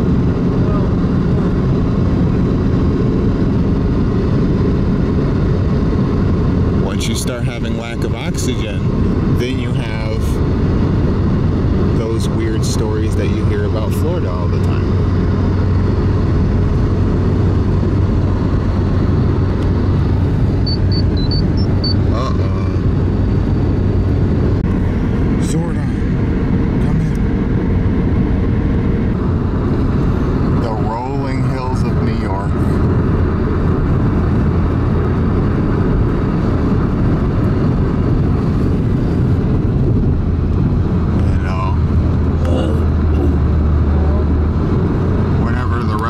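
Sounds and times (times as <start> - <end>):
car road noise from inside cabin: 0.0 - 46.0.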